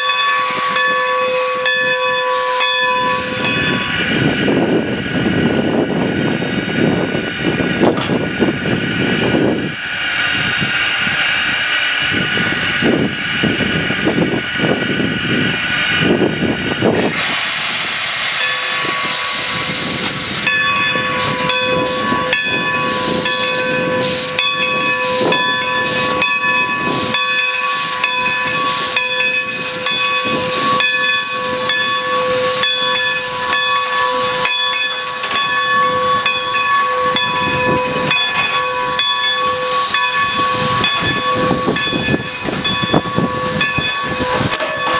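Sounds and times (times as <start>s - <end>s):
steam locomotive chuffing: 0.0s - 44.9s
steam locomotive hissing: 0.0s - 44.9s
wind buffeting microphone: 2.9s - 33.5s, 35.7s - 44.9s.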